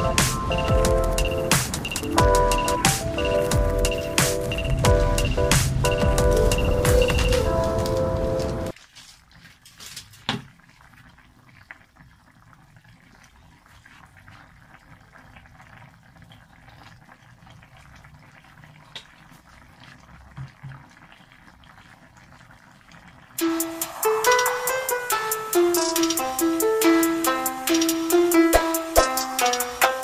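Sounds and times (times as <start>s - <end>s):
stew bubbling and popping: 0.0s - 30.0s.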